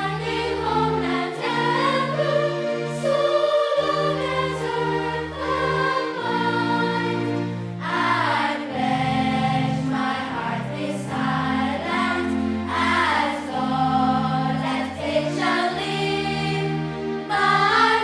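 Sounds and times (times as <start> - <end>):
choir singing slow song: 0.0 - 18.0
low musical accompaniment: 0.0 - 18.0.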